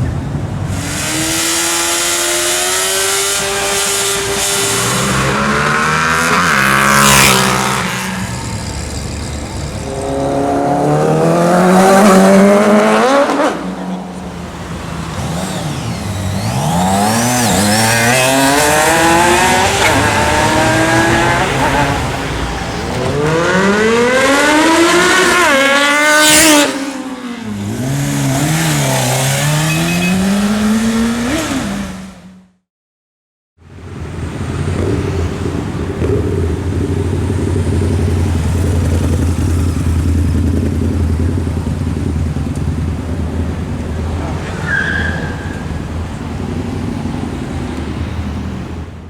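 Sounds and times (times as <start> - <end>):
motorcycles accelerating hard: 0.7 - 32.2, 33.8 - 44.6.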